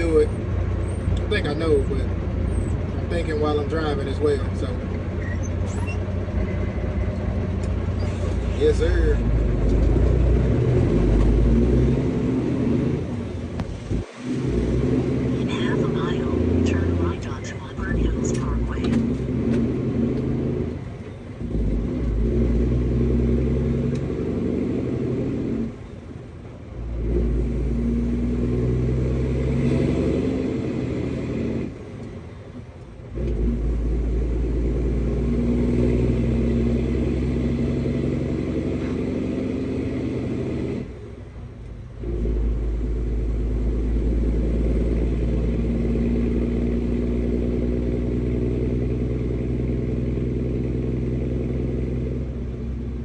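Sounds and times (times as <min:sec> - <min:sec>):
truck diesel engine from cab: 0:00.0 - 0:53.0.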